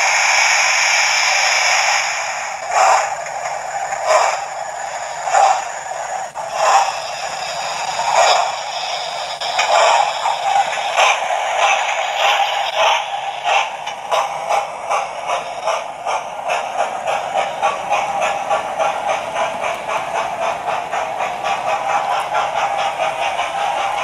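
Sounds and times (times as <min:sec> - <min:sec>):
model train clattering: 0:00.0 - 0:24.0.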